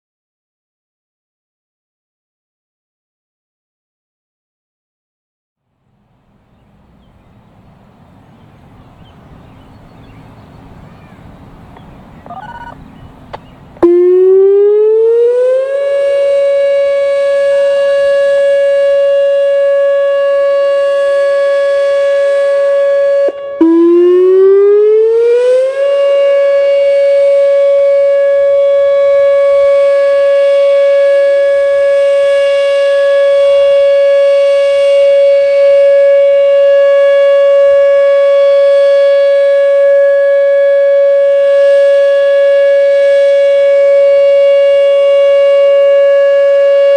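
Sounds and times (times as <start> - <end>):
warning siren steady tone: 6.2 - 46.9.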